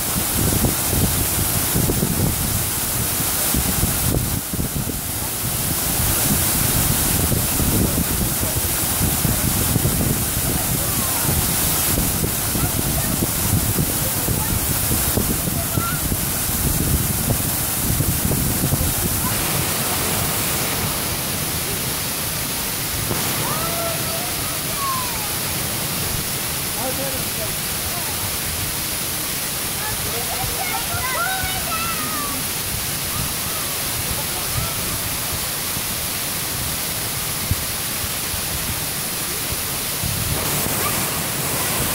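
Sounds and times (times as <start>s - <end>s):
waterfall pouring over boulders: 0.0s - 41.9s.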